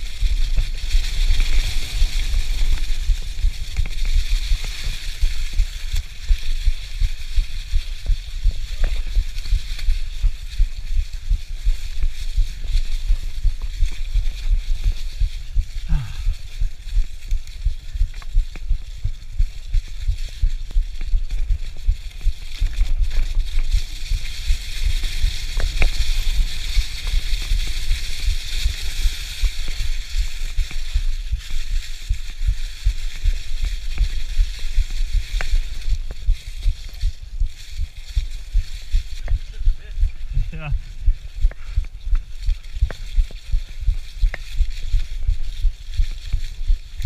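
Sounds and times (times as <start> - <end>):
bike tyres rolling over dry leaves: 0.0 - 47.0
low rumble of rough ride: 0.0 - 47.0.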